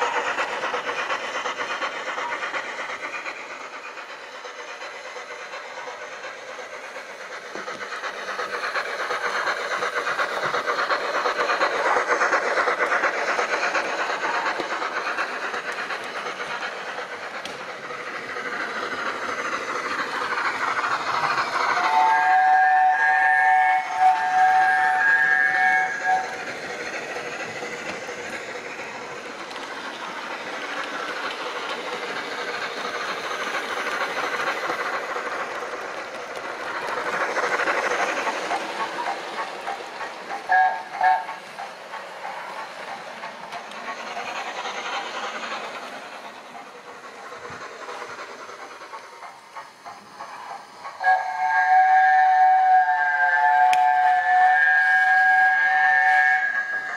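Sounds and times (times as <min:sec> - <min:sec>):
steam locomotive running sounds: 0:00.0 - 0:56.9.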